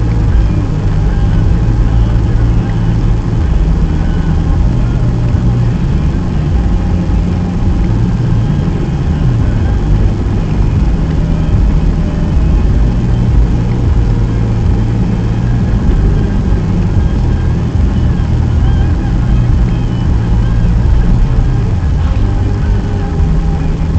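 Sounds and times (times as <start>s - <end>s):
car engine and road noise: 0.0s - 23.9s.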